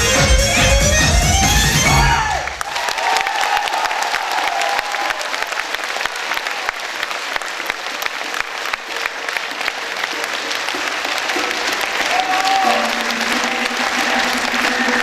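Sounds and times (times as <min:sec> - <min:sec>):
crowd clapping: 0:01.9 - 0:15.0.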